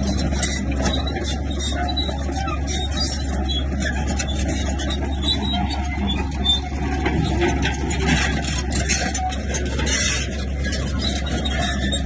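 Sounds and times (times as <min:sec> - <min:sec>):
bulldozer diesel engine: 0:00.0 - 0:12.0
scraping and clatter: 0:00.0 - 0:12.0.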